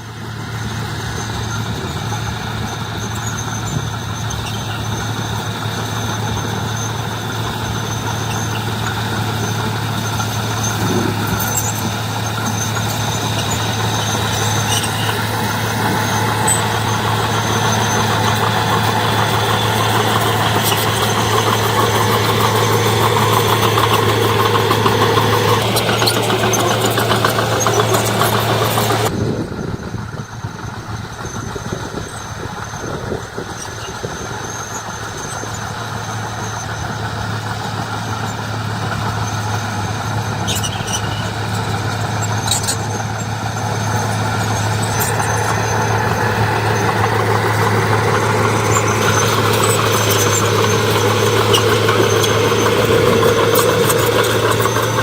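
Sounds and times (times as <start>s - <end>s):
diesel engine of earthmoving machine: 0.0s - 55.0s.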